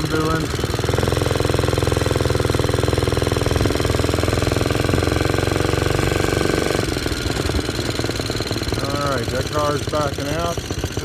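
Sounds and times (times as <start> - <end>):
small engine exhaust pulses: 0.0 - 11.0.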